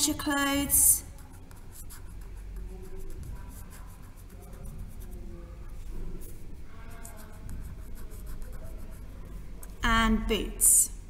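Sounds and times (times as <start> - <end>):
felt-tip pen scratching on paper: 0.8 - 9.8.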